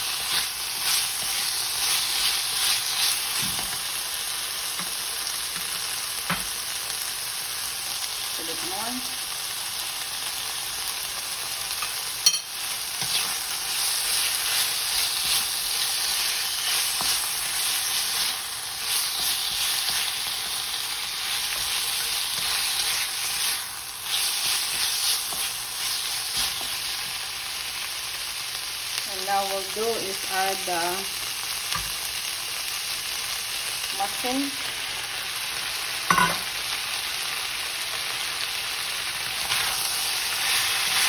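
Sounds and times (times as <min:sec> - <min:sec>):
curry paste sizzling in a pan: 0:00.0 - 0:41.0.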